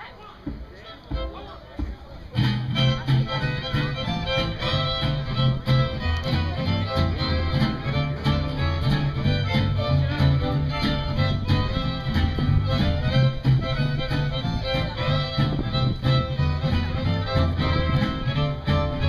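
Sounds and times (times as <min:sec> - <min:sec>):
bass: 0:00.0 - 0:19.0
fiddle: 0:00.0 - 0:19.0
guitar: 0:00.0 - 0:19.0
steady beat: 0:00.0 - 0:19.0.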